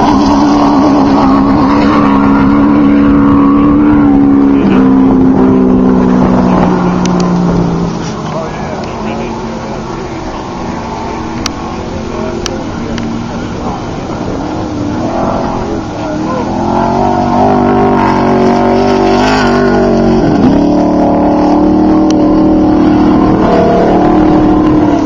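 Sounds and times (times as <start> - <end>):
race vehicle engines: 0.0 - 25.0.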